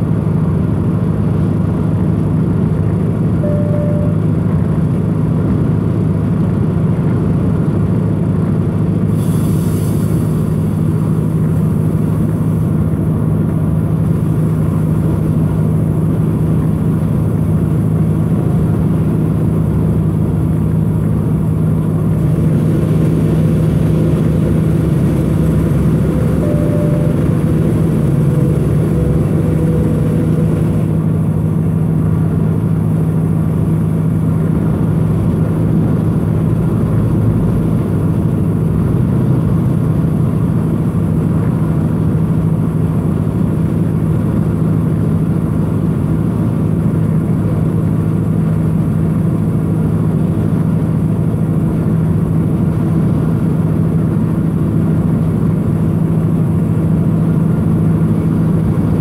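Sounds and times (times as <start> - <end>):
road noise: 0.0 - 59.0
truck engine droning: 0.0 - 59.0.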